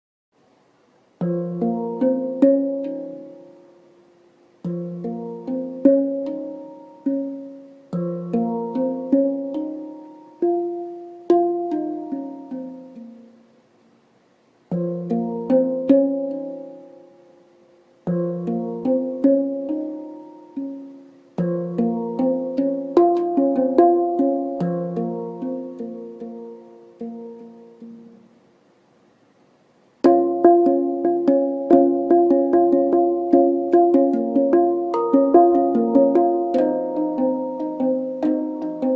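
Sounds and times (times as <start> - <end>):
handpan melody: 1.2 - 13.6, 14.7 - 28.4, 30.0 - 38.9.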